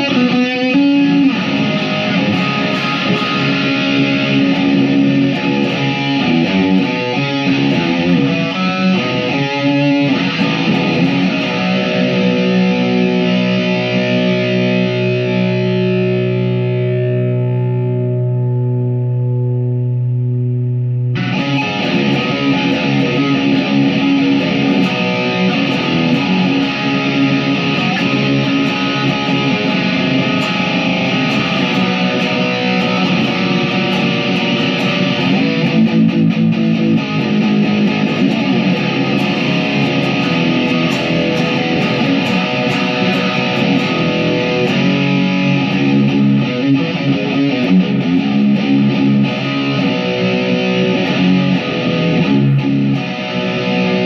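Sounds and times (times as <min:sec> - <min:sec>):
distorted electric guitar chords: 0:00.0 - 0:54.0.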